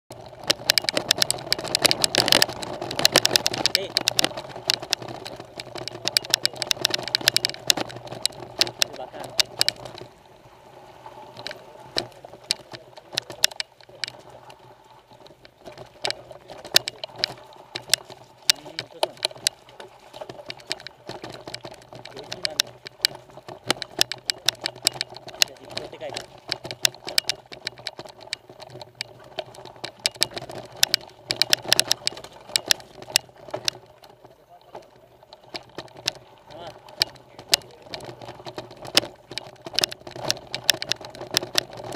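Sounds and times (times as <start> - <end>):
bike knocks and rattles: 0.1 - 10.2, 11.3 - 14.6, 15.2 - 41.9
tyres rolling on loose stone: 0.1 - 10.2, 11.2 - 41.9.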